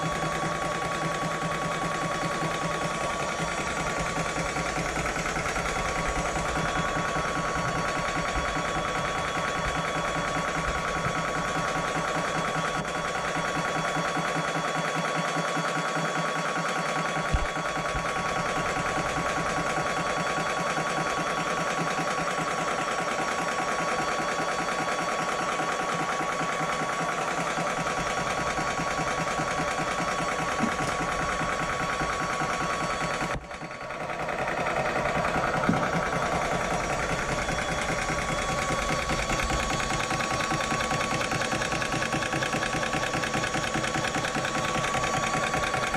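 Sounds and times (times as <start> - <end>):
air compressor running: 0.0 - 45.9.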